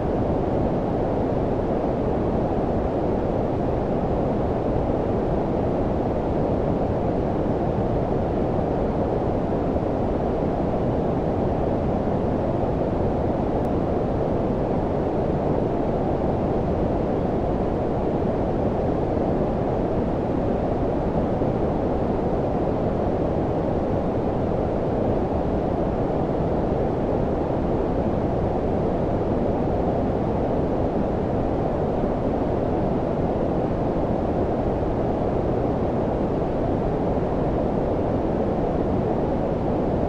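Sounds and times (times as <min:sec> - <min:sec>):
low brown noise hiss: 0:00.0 - 0:40.0.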